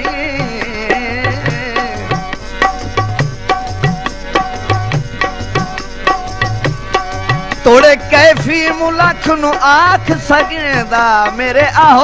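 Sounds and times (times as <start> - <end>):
hand drum rhythm: 0.0 - 12.0
harmonium tones: 0.0 - 12.0.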